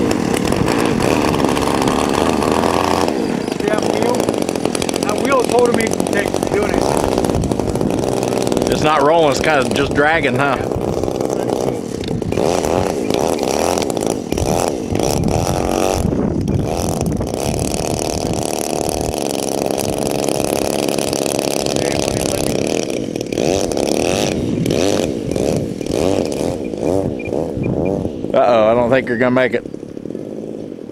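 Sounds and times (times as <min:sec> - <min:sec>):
model airplane motor running: 0:00.0 - 0:30.9.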